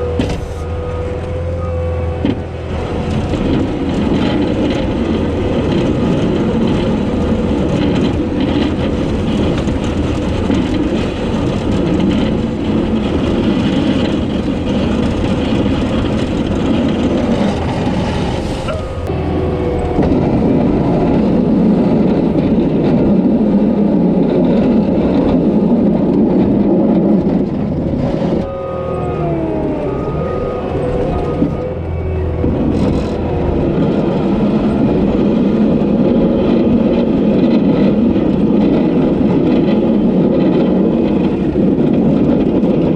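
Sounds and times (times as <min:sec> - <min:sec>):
whining tones sliding in pitch: 0:00.0 - 0:23.2, 0:28.3 - 0:42.0
diesel engine working hard: 0:00.0 - 0:42.9.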